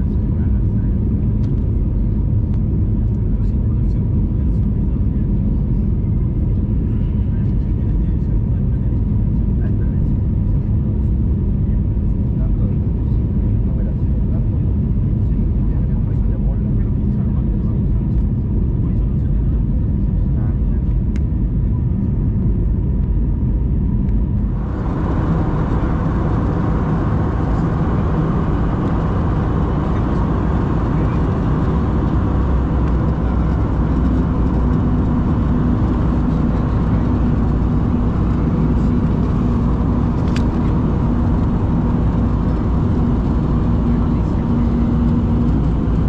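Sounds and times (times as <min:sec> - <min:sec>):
aircraft cabin engine roar: 0:00.0 - 0:46.0
steady low hum: 0:00.0 - 0:46.0.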